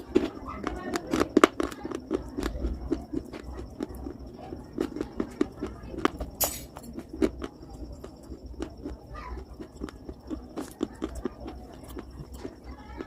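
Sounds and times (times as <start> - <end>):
person chewing brittle pieces: 0.0 - 13.0.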